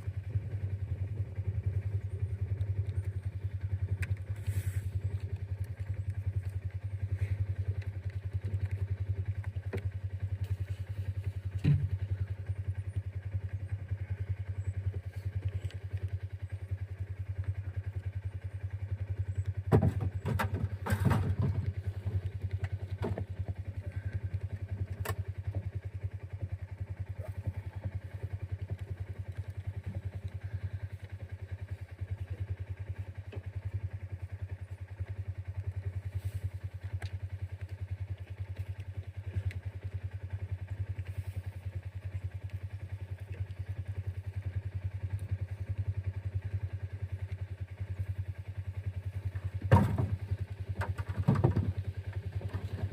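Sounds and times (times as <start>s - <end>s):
engine droning: 0.0s - 52.9s
engine knocks and clatter: 0.0s - 52.9s.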